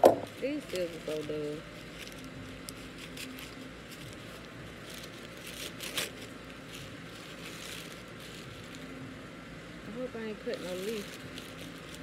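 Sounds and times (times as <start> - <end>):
low background noise: 0.0 - 12.0
scissors cutting wrapping: 0.6 - 8.9, 10.5 - 12.0.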